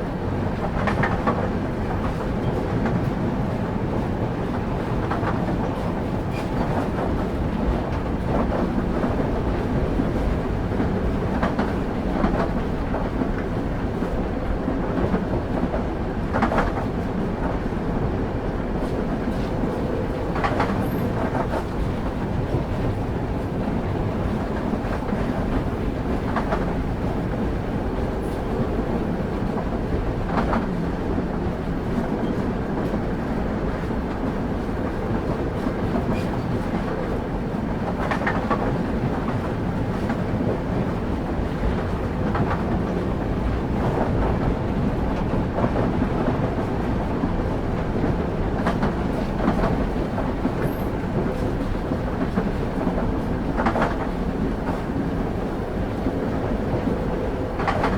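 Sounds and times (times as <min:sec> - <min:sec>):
train wheels rumbling on track: 0:00.0 - 0:57.9.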